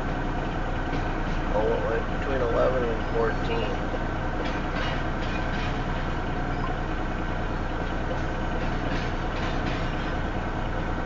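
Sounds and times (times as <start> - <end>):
diesel locomotive drone: 0.0 - 11.0
train cars rumbling on rails: 0.0 - 11.0.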